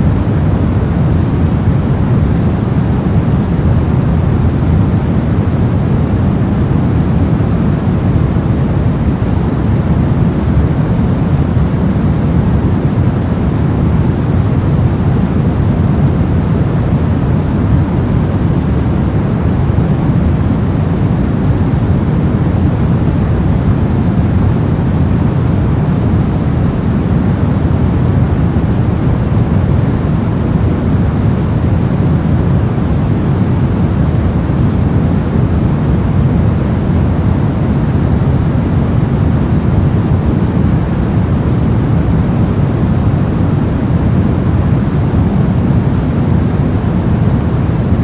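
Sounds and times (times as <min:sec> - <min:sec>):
deep muffled brown noise hiss: 0:00.0 - 0:48.0.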